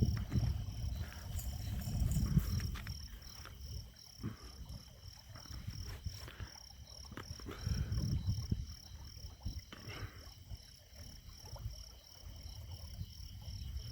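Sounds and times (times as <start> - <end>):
crickets chirping: 0.0 - 13.9.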